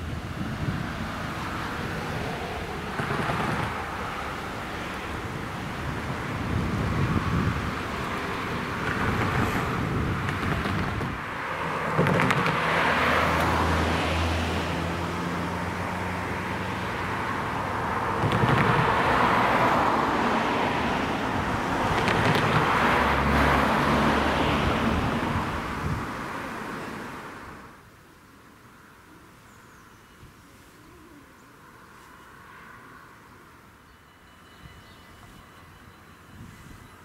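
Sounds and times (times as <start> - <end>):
cars passing: 0.0 - 37.0.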